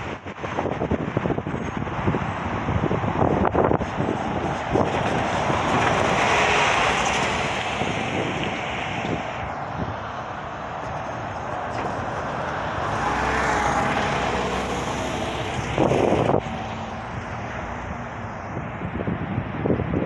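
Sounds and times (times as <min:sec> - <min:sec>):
bus driving past: 0:00.0 - 0:20.0
loud rush of noise: 0:00.0 - 0:20.0
street traffic: 0:00.0 - 0:20.0.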